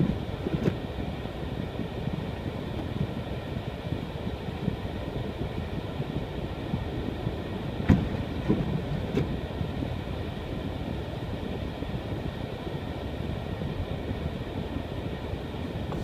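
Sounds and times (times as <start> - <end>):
car tyres and engine rumbling: 0.0 - 16.0.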